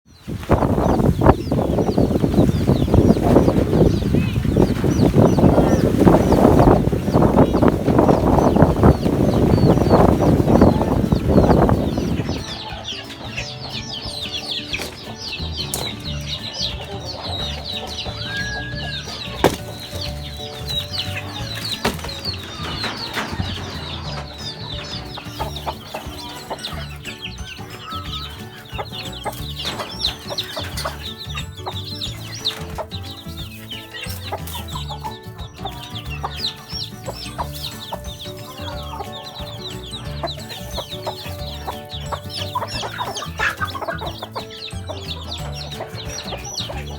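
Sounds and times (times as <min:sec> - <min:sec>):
chicks peeping: 0:00.1 - 0:46.9
background music: 0:00.2 - 0:46.9
hen clucking: 0:00.2 - 0:46.9.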